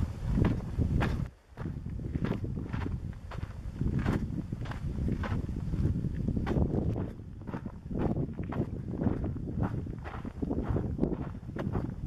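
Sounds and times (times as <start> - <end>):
footsteps on gravel trail: 0.0 - 12.0.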